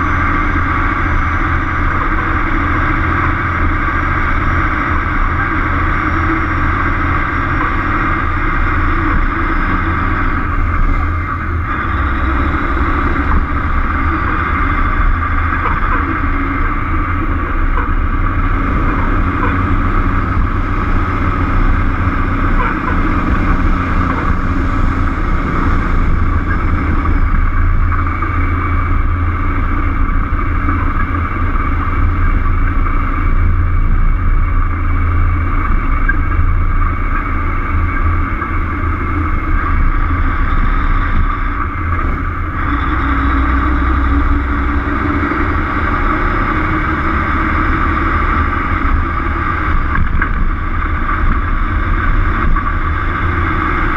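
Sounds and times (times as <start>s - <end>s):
road and wind noise: 0.0s - 53.9s
truck diesel engine rumbling: 0.0s - 53.9s.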